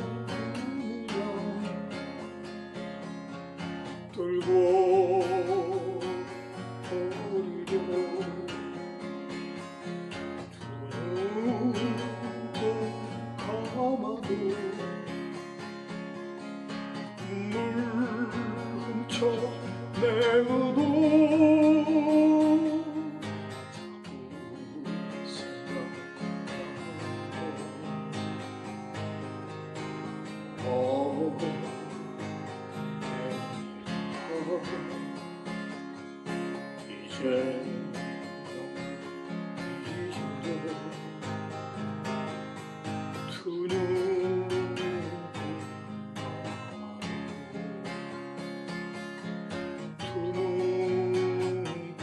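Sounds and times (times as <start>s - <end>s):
man singing with vibrato: 0.0s - 48.4s, 49.0s - 52.0s
acoustic guitar strumming: 0.0s - 52.0s.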